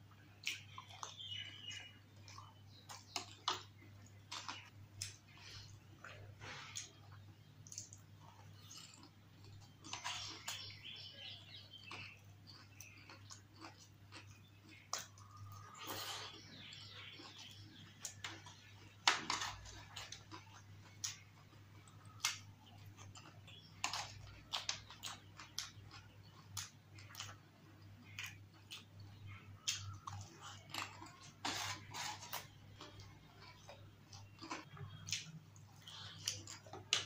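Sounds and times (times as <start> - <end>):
chewing with wet mouth smacks: 0.2 - 37.0.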